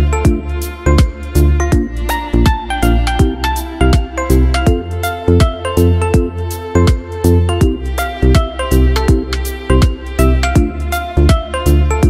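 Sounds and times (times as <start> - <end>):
plucked notes: 0.0 - 12.0
sustained bass: 0.0 - 12.0
deep kick drum: 0.2 - 12.0.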